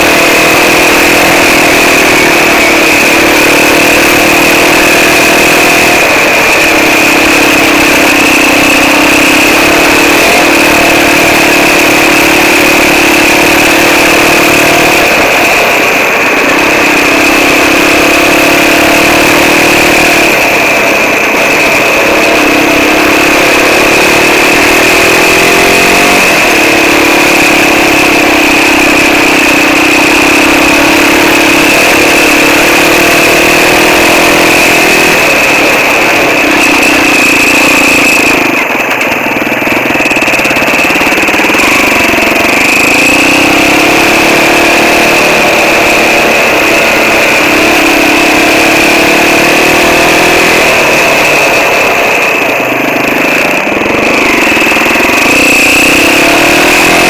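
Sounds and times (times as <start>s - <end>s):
quad bike engine revving: 0.0s - 57.0s
steady high whine: 0.0s - 57.0s.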